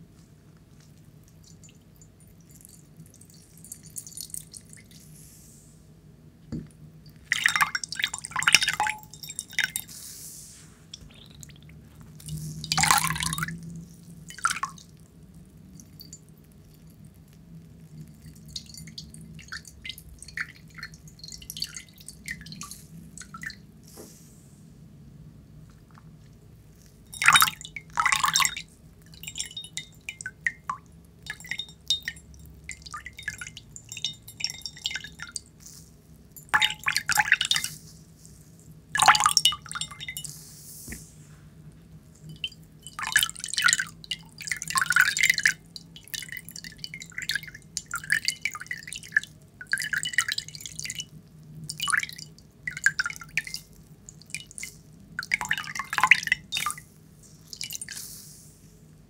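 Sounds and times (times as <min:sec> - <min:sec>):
water dripping and splashing: 0:00.7 - 0:05.1, 0:06.6 - 0:09.9, 0:10.9 - 0:23.7, 0:25.8 - 0:37.9, 0:38.7 - 0:40.3, 0:42.1 - 0:58.0.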